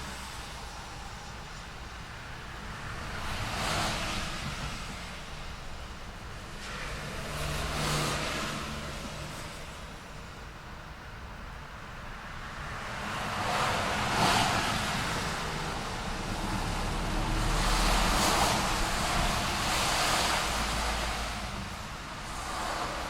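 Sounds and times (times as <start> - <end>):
vehicles passing: 0.0 - 23.0.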